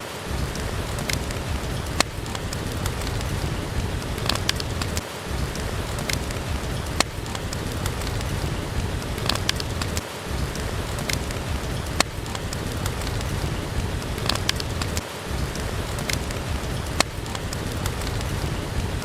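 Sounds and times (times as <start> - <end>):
heavy rain: 0.0 - 19.0
wood fire crackling: 0.0 - 19.0.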